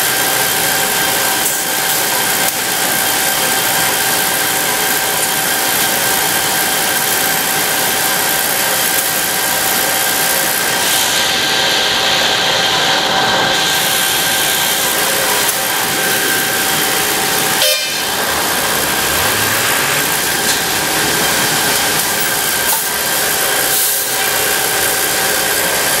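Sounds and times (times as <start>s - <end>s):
industrial machinery running: 0.0s - 26.0s.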